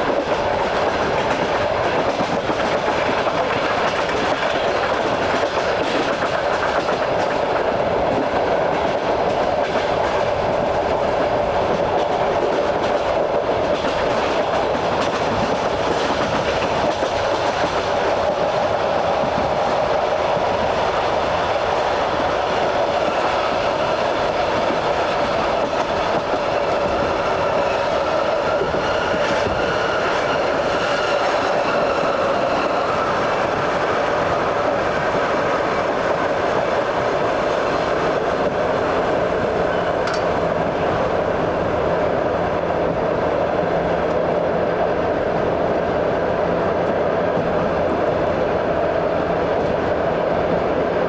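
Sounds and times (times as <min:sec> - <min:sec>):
train wheels rolling on rails: 0:00.0 - 0:51.0.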